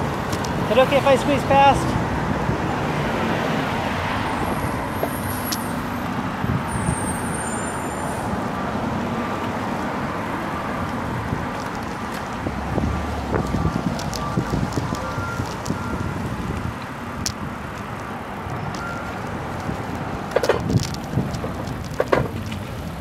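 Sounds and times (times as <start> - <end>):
passing cars: 0.0 - 23.0
road and wind noise: 0.0 - 23.0.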